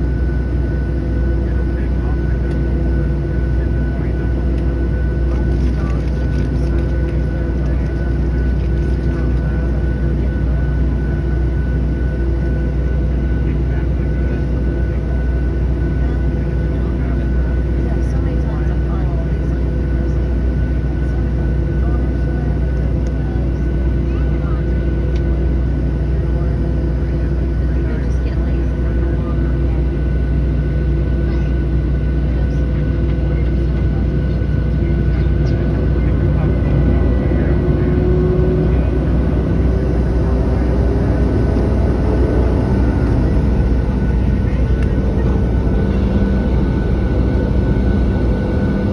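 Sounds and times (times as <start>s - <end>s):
aircraft cabin engine drone: 0.0s - 48.9s
thin steady whine: 0.0s - 48.9s.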